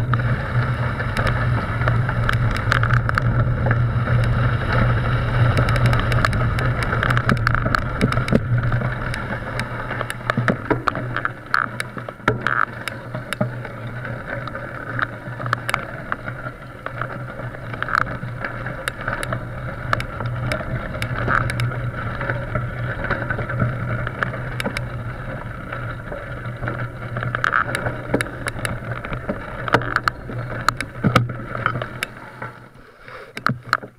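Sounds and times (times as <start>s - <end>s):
bike rolling over gravel: 0.0s - 33.9s
clicks and rattles: 1.0s - 33.9s.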